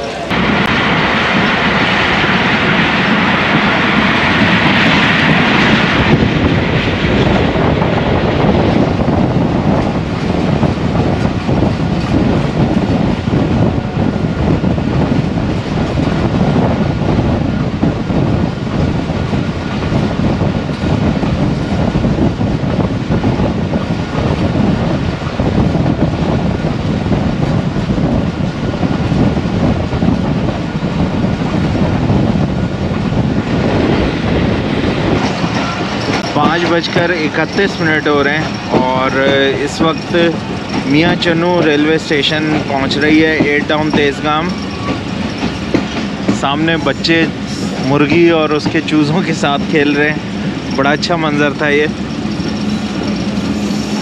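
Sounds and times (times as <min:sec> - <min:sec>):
rushing air: 0:00.0 - 0:54.0
train wheels rumbling on track: 0:00.0 - 0:54.0.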